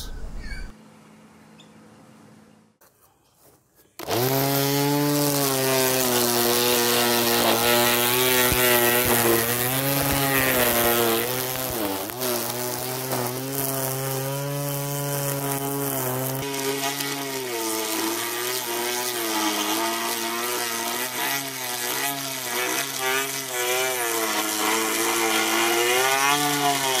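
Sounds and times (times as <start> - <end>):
electric grass trimmer running: 4.0 - 27.0.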